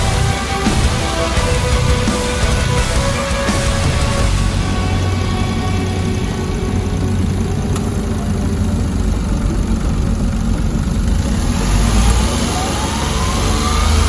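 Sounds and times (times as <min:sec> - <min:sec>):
rising whine: 0:00.0 - 0:14.0
small engine running: 0:00.0 - 0:14.0.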